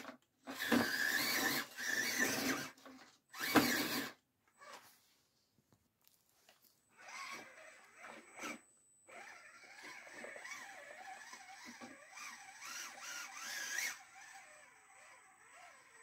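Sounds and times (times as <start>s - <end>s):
electric motor and gears whining: 0.0s - 4.9s, 6.9s - 16.0s.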